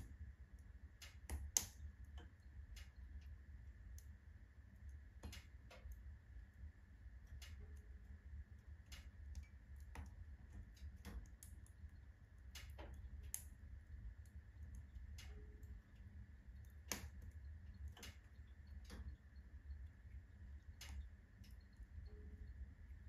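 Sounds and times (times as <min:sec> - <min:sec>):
firewood crackling and popping: 0:00.0 - 0:23.0
low rumble of fire: 0:00.0 - 0:23.0.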